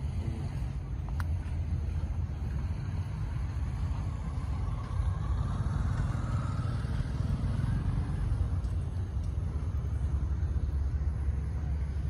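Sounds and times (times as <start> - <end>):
low rumble of road traffic: 0.0 - 12.0
vehicle passing: 0.0 - 12.0.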